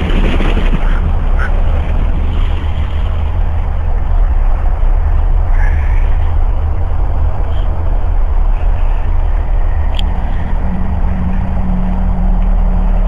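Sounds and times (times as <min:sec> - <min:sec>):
low hum: 0:00.0 - 0:13.0
low rumbling: 0:00.0 - 0:13.0.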